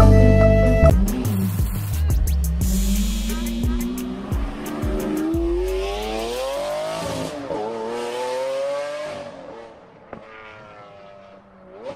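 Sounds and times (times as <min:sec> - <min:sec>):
car engine revving: 0:00.9 - 0:11.9.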